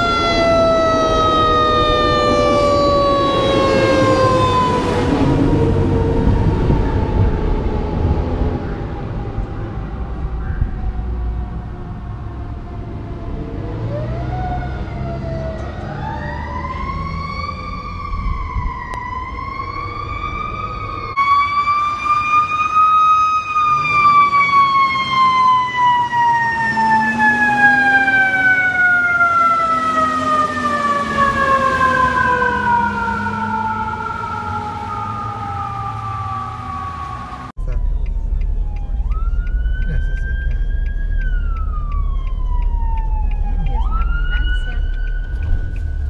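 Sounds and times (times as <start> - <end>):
ambulance siren slow wail: 0.0 - 46.0
emergency vehicle siren wailing: 0.0 - 46.0.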